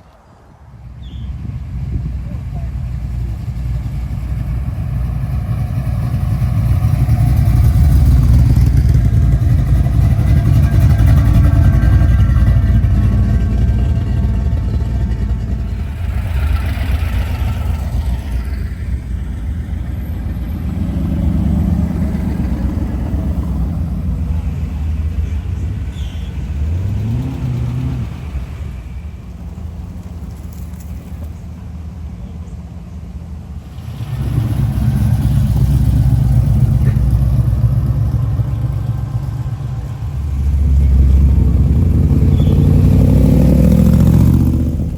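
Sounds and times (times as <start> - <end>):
car engine rumbling: 0.0 - 44.9.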